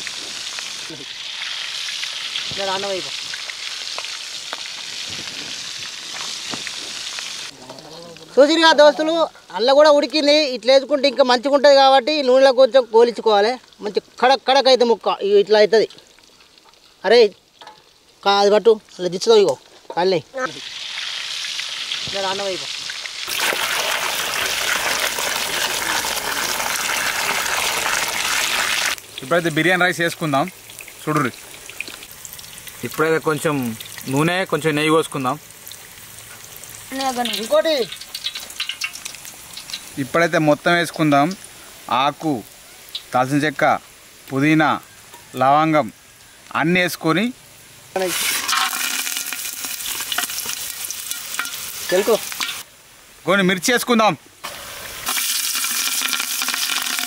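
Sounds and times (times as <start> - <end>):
meat deep-frying in oil: 0.0 - 57.0.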